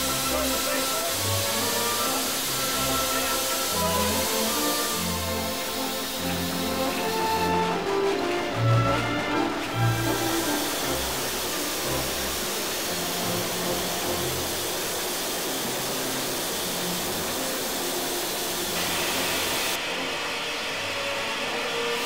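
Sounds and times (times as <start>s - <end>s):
steady loud hiss: 0.0s - 22.0s.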